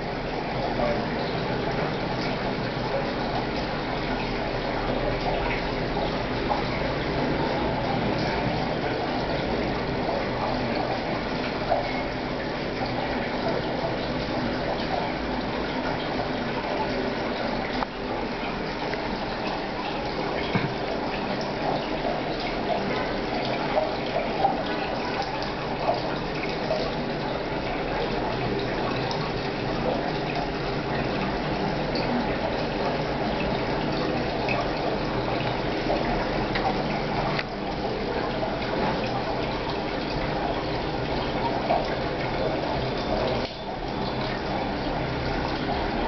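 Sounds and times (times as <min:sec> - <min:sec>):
aquarium water bubbling: 0:00.0 - 0:46.0.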